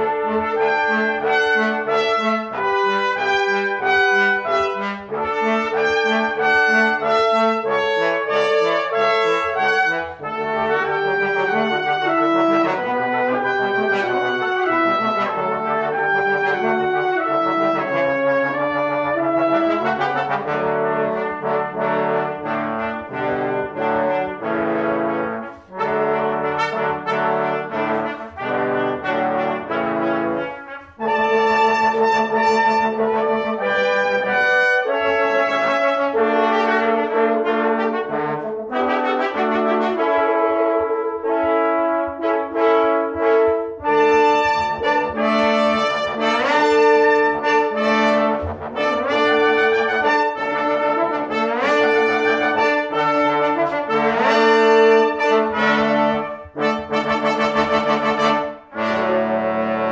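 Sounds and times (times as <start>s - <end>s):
brass quintet playing: 0.0s - 59.9s.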